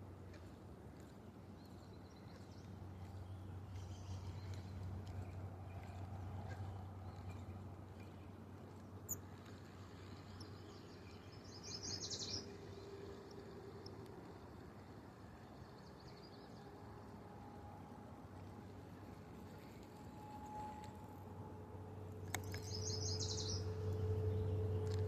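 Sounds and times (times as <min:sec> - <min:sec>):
faint outdoor hum: 0:00.0 - 0:25.0.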